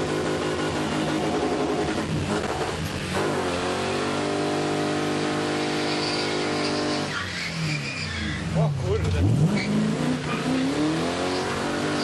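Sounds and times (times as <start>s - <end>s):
car engine and exhaust: 0.0s - 12.0s.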